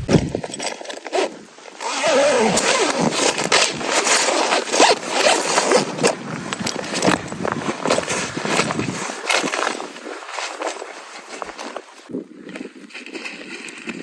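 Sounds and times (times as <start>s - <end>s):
zipper being pulled: 0.0s - 12.0s.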